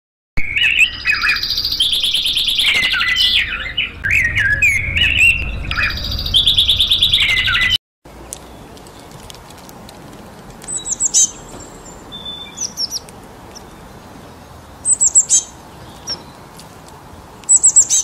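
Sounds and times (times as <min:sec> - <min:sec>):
chaffinch singing: 0:00.4 - 0:09.2, 0:10.3 - 0:18.0.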